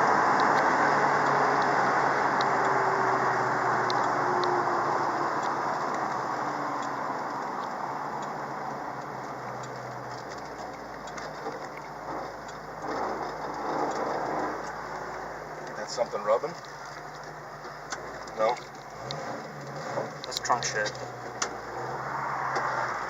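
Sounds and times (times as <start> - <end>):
car engine running: 0.0 - 23.0
road noise: 0.0 - 23.0.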